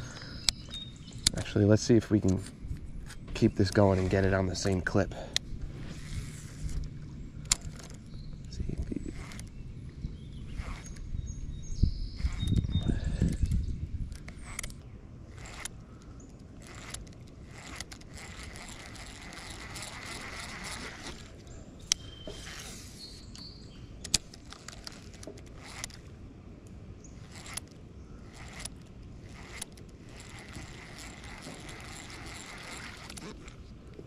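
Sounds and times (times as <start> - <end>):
fishing reel cranking: 3.0 - 11.4, 12.0 - 26.2, 27.1 - 34.0.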